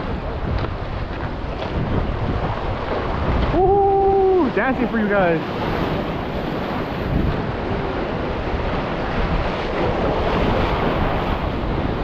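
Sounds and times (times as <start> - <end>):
waves breaking against rocks: 0.0 - 12.0
wind buffeting microphone: 0.0 - 12.0.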